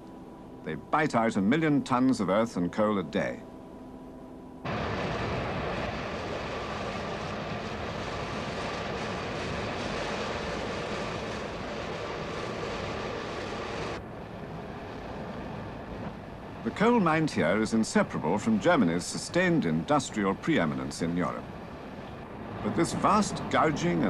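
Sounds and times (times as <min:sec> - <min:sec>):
faint whining tones: 0:00.0 - 0:24.0.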